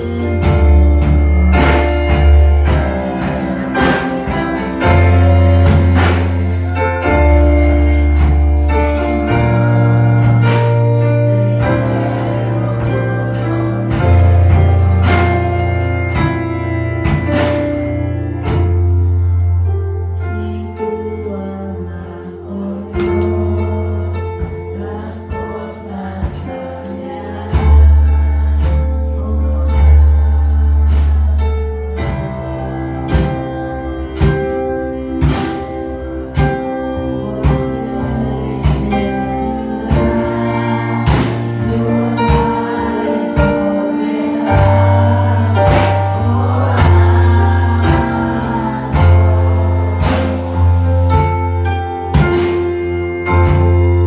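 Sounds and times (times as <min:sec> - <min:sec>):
drum kit steady beat: 0:00.0 - 0:20.1, 0:23.0 - 0:54.0
deep bass line: 0:00.0 - 0:54.0
electronic keyboard chords: 0:00.0 - 0:54.0.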